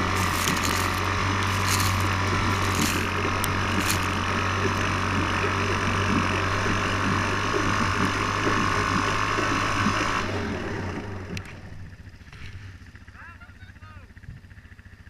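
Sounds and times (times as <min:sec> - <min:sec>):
atv engine running hard: 0:00.0 - 0:15.0.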